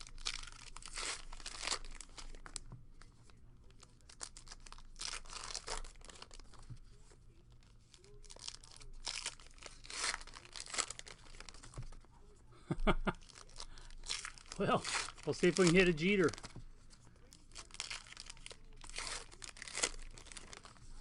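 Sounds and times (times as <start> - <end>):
wrappers tearing and crinkling: 0.0 - 2.6, 3.7 - 6.7, 7.6 - 12.0, 13.2 - 16.5, 17.3 - 21.0.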